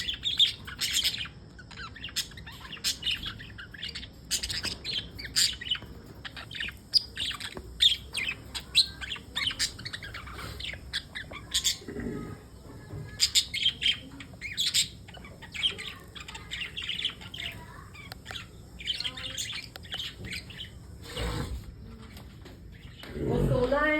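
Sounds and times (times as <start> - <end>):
budgerigars chirping: 0.0 - 22.2.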